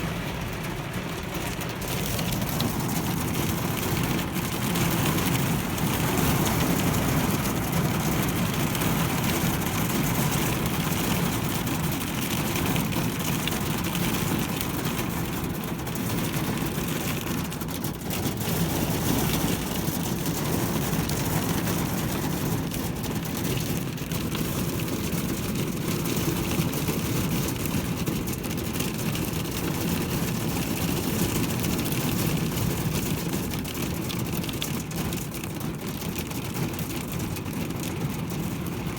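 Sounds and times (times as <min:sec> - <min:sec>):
hail and heavy rain clattering: 0:00.0 - 0:38.9.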